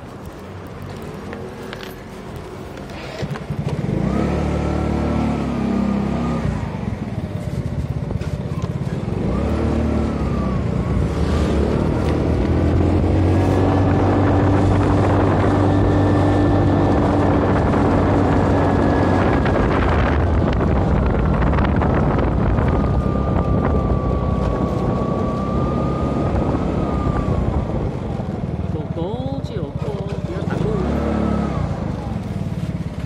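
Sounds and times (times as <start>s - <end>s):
motor scooter engine running: 0.0s - 33.0s
wind buffeting microphone: 5.8s - 33.0s.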